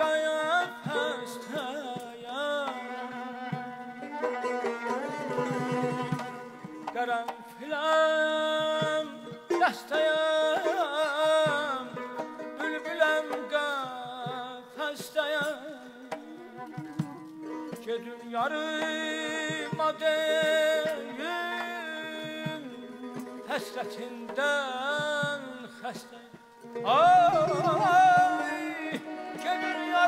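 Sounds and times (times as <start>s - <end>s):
man singing with warbling trills: 0.0s - 4.1s, 4.8s - 16.8s, 17.5s - 30.0s
strings holding low notes: 0.0s - 9.4s, 10.8s - 30.0s.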